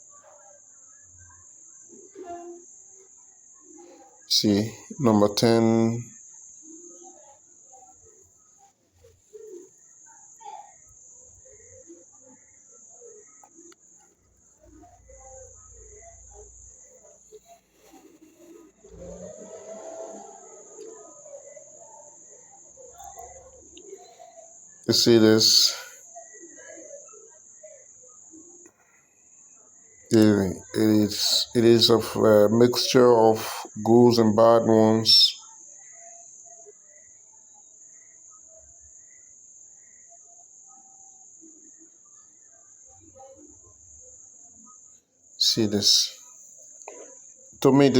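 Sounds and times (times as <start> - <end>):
crickets chirping: 0.0 - 47.9
high-pitched insect drone: 0.2 - 29.1, 29.8 - 47.9.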